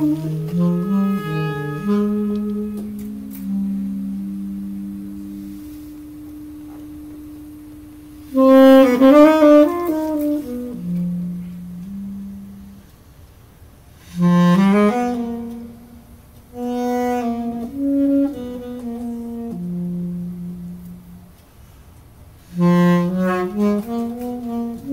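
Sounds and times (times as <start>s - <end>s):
saxophone trio playing: 0.0s - 24.9s.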